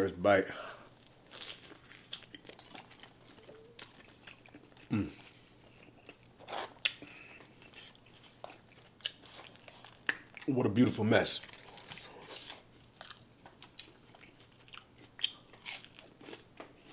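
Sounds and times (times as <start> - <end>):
person chewing food: 0.9 - 10.5, 11.4 - 16.9.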